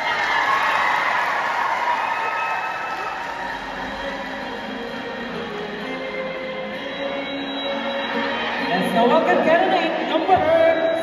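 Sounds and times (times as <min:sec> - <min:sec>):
crowd cheering in a hall: 0:00.0 - 0:11.0.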